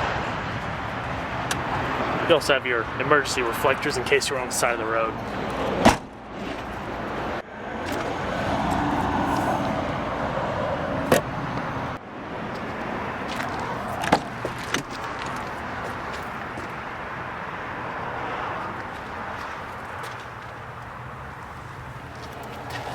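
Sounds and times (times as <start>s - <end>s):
road traffic noise: 0.0s - 22.9s
vehicle passing: 0.0s - 22.9s.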